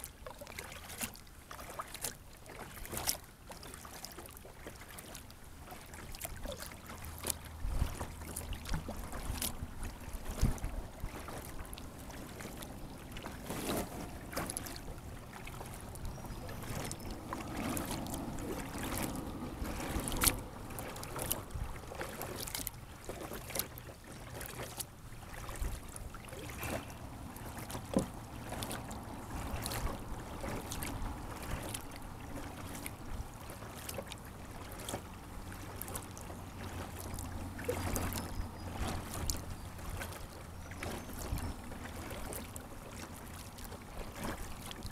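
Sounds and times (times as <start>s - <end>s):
paddle splashing in water: 0.0s - 44.9s.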